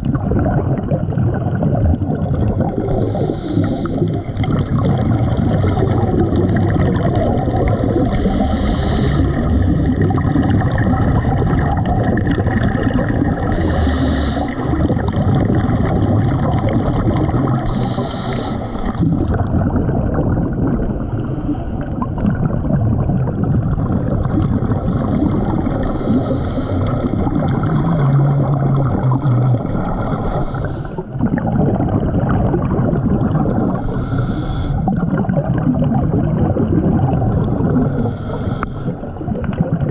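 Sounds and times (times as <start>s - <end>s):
rumble of bubbles: 0.0s - 39.9s
scuba diver breathing underwater: 0.1s - 39.9s.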